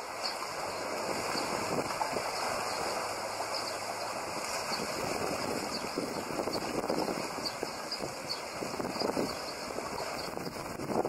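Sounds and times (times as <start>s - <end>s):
lake water splashing and lapping: 0.0s - 11.0s
wind on microphone: 0.0s - 11.0s.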